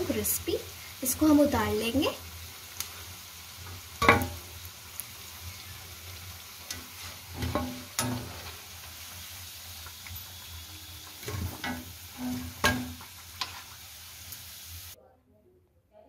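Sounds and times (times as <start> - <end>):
deep-frying sizzle in oil: 0.0 - 15.0.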